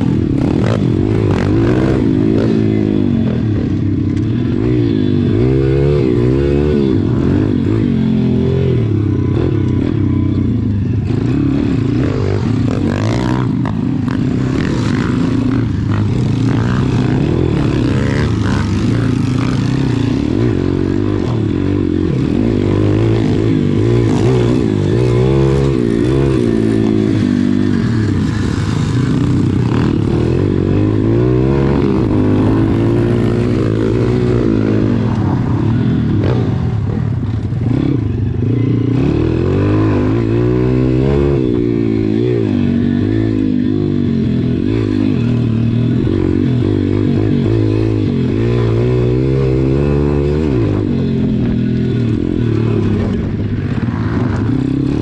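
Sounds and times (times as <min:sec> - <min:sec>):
pit bike engine revving: 0:00.0 - 0:55.0.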